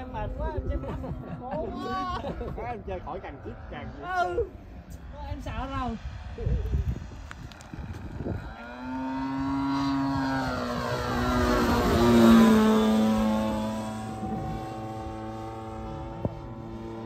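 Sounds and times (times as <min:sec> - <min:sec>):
model plane engine passing: 0:00.0 - 0:17.0.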